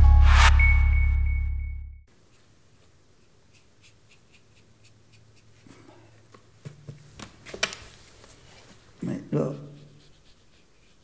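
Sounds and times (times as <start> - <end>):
brush tapping and scratching paper: 2.2 - 11.0.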